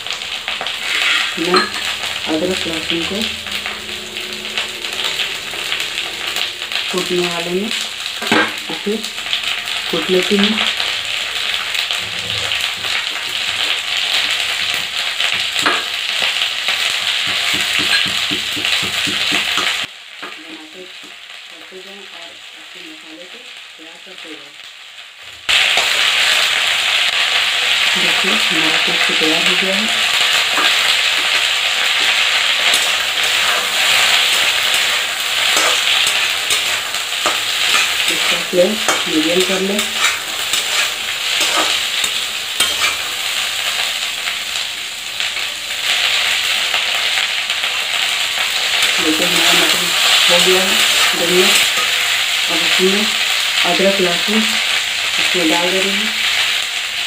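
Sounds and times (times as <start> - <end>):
vegetables sizzling in hot oil: 0.0 - 57.0.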